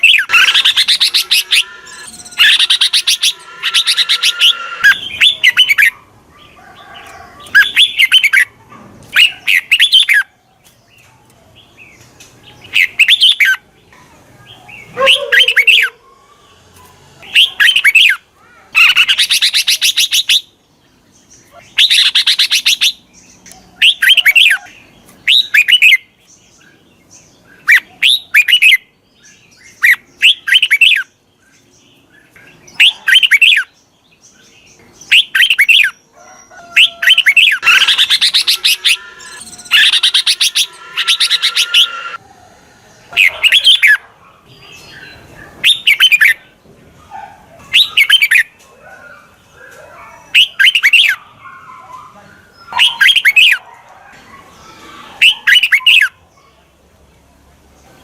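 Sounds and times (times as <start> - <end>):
bird song warbled phrases: 0.0 - 58.0.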